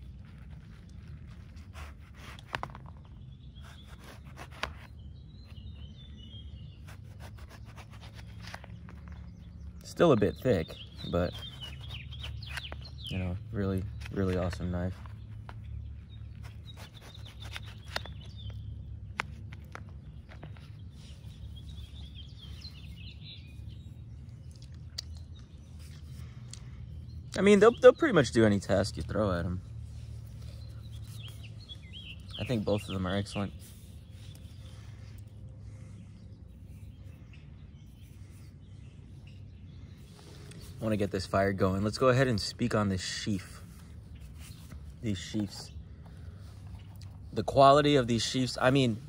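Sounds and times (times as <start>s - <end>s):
faint bird chirps: 0.0s - 49.0s.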